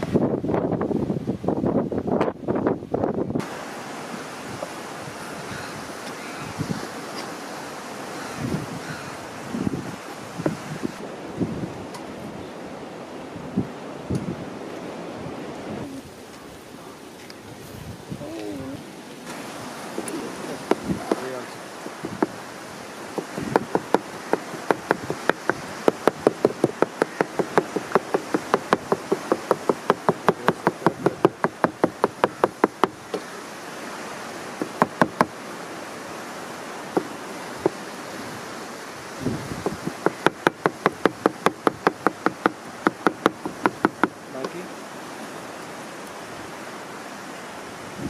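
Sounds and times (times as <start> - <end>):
steady background hiss: 0.0 - 48.0.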